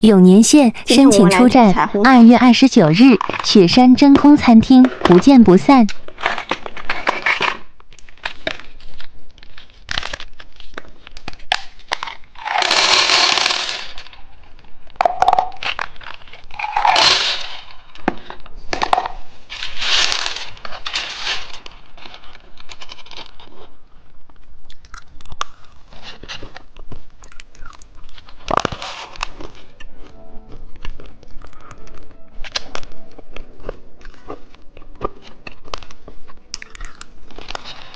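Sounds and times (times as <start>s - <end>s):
plastic wrappers crinkling and tearing: 5.8s - 37.9s.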